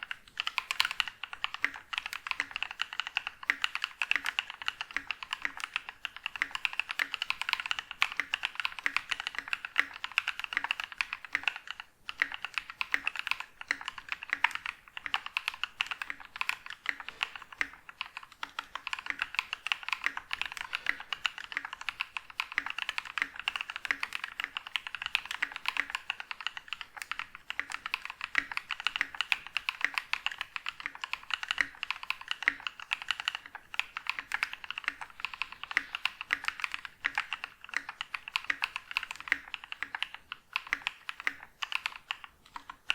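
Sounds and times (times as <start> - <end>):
mechanical keyboard typing: 0.0 - 42.9.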